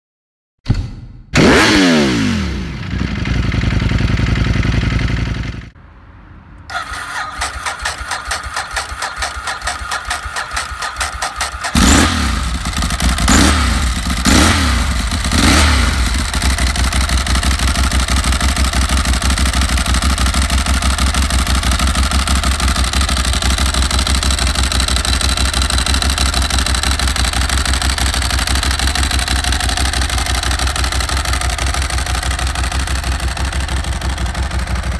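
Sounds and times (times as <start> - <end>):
motorcycle engine idling: 2.7 - 5.8, 6.7 - 34.9.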